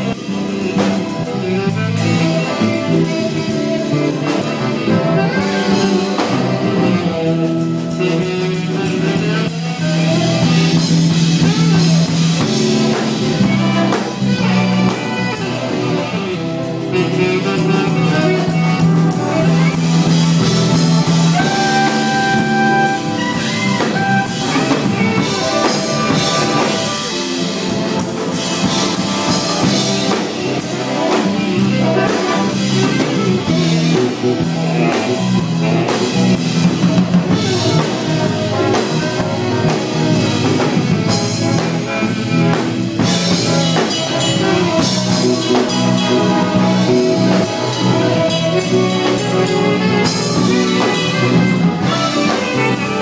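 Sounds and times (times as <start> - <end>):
drum kit: 0.0 - 53.0
horns: 0.0 - 53.0
jazz band playing: 0.0 - 53.0.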